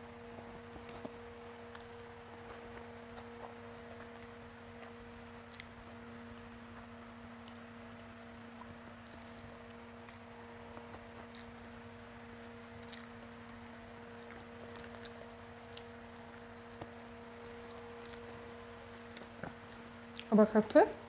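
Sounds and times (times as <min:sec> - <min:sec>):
steady low hum: 0:00.0 - 0:21.0
fingers squishing rice: 0:00.2 - 0:20.3
chewing with wet mouth clicks: 0:00.6 - 0:11.6, 0:12.3 - 0:13.2, 0:14.0 - 0:18.4, 0:19.1 - 0:20.4.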